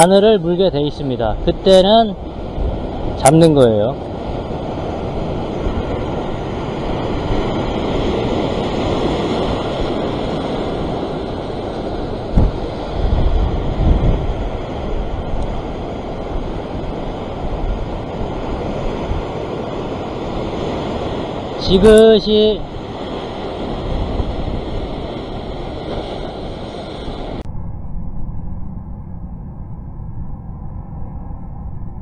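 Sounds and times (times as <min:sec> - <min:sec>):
surf breaking over rocks: 0:00.0 - 0:27.4
wind buffeting microphone: 0:00.0 - 0:28.2.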